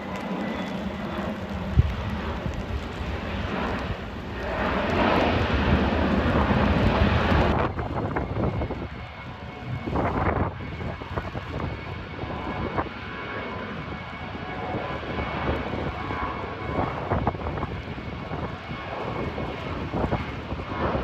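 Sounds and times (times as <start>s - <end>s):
jet engines and spray rushing: 0.0s - 21.0s.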